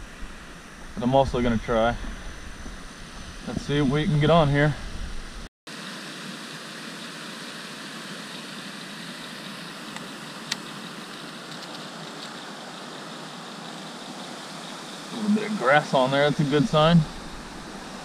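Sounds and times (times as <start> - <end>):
rushing outdoor hiss: 0.0 - 18.0.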